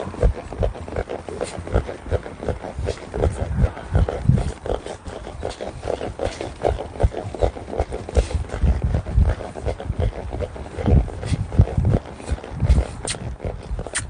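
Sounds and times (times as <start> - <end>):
horse breathing: 0.0 - 14.0
horse hoof thuds: 0.0 - 14.0.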